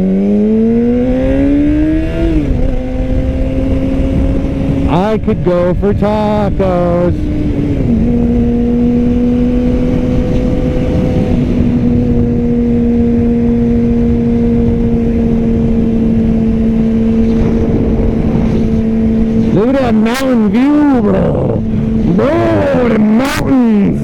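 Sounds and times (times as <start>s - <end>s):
motorcycle engine at high revs: 0.0s - 24.0s
wind rushing over microphone: 0.0s - 24.0s.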